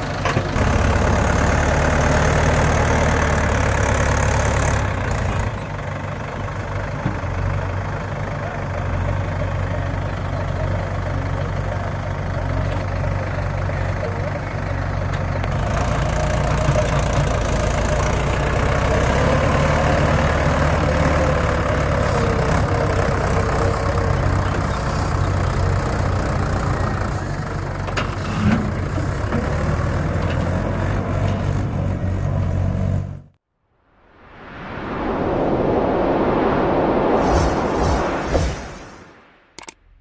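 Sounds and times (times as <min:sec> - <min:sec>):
tractor diesel engine running: 0:00.0 - 0:33.4.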